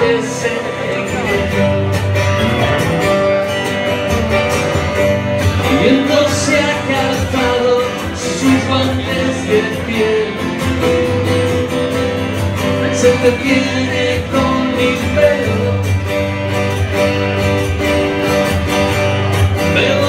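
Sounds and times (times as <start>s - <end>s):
acoustic guitars strumming: 0.0s - 20.0s.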